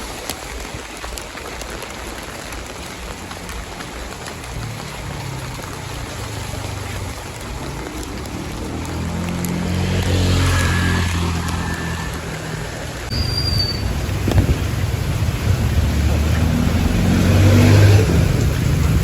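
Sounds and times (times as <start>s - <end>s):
tyres splashing through water: 0.0s - 19.0s
vehicle engine passing: 3.3s - 19.0s.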